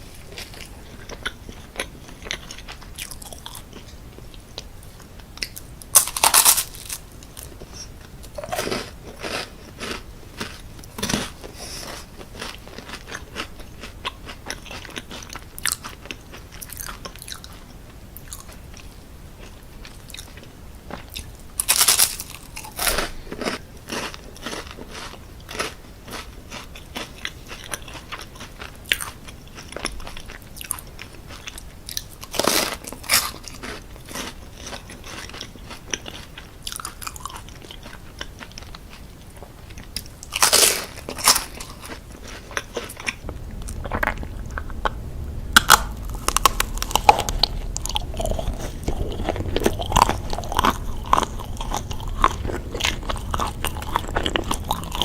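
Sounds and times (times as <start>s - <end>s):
crunching bites and chewing: 5.4s - 17.6s, 19.4s - 55.0s.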